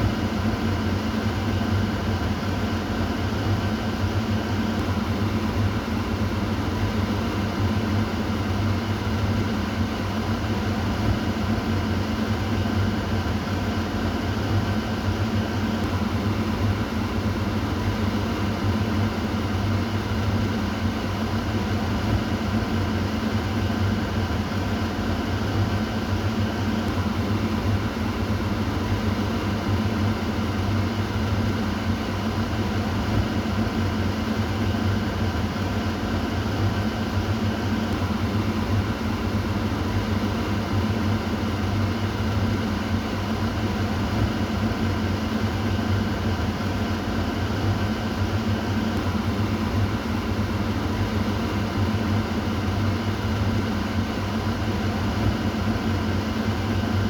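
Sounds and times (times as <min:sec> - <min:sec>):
exhaust fan humming: 0:00.0 - 0:57.0.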